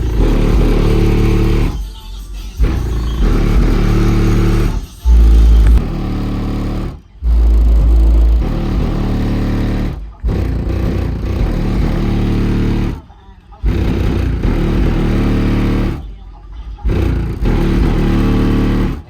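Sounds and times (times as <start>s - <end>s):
bass-heavy music from car speakers: 0.0s - 19.0s.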